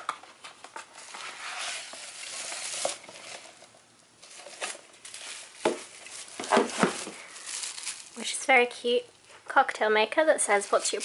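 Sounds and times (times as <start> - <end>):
cardboard and wrapping rustling: 0.3 - 9.0, 10.4 - 11.0.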